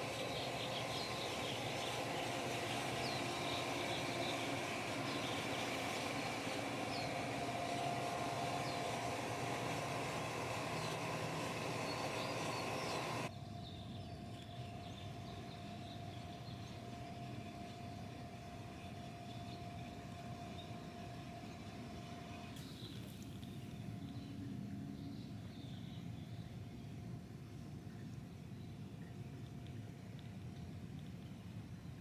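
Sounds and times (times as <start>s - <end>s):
outdoor background hum: 0.0s - 32.0s.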